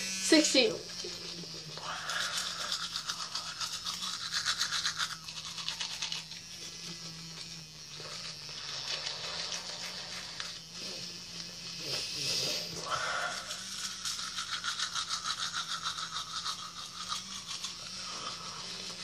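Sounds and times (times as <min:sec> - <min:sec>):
toothbrush scrubbing teeth: 0:00.2 - 0:19.0.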